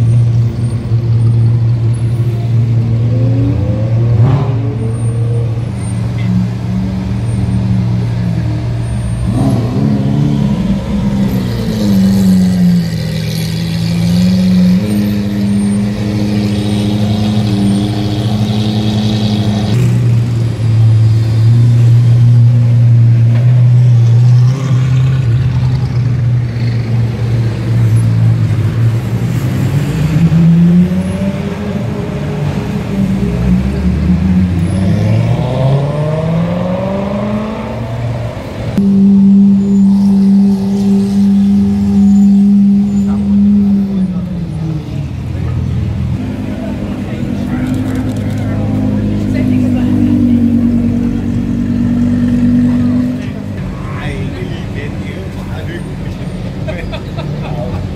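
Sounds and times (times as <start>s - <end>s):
supercar engines idling and revving: 0.0s - 57.9s.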